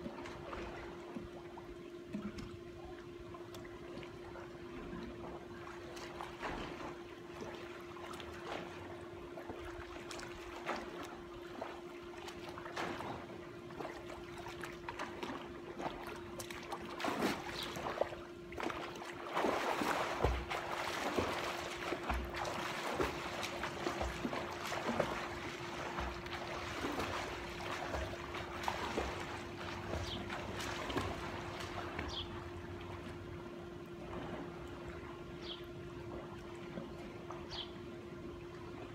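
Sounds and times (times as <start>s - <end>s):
water splashing in a pool: 0.0s - 37.6s
steady low hum: 0.0s - 38.9s.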